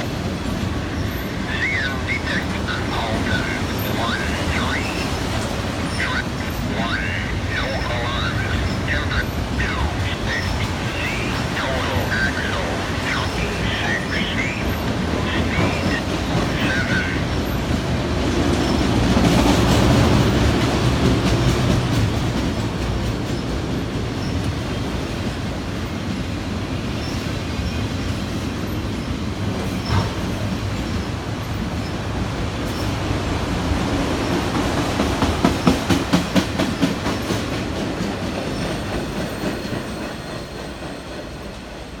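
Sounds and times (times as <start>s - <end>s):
steel wheels rumbling on rail: 0.0s - 42.0s.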